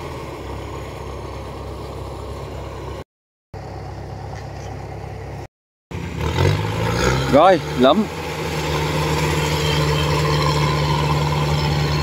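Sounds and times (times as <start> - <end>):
diesel engine humming: 0.0 - 3.0, 3.6 - 12.0.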